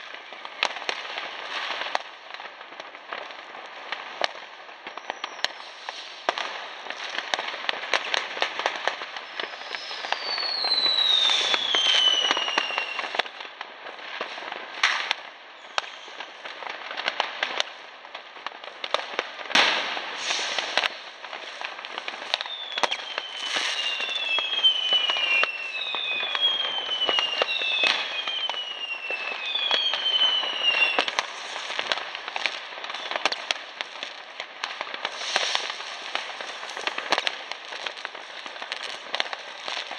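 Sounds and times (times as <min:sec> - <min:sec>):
falling firework whistles: 0:00.0 - 0:02.1, 0:04.0 - 0:17.7, 0:18.8 - 0:39.9
fireworks banging and crackling: 0:00.0 - 0:39.9.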